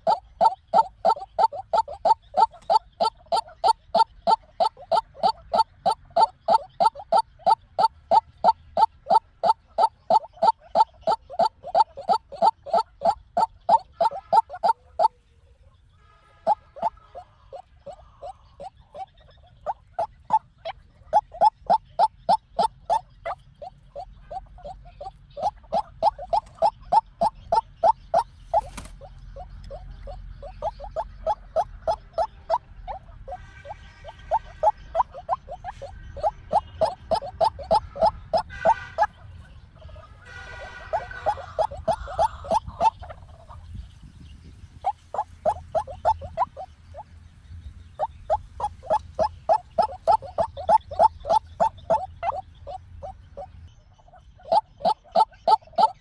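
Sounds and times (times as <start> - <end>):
waterhen harsh calls: 0.0 - 15.2, 16.0 - 43.7, 44.8 - 47.0, 48.0 - 56.0.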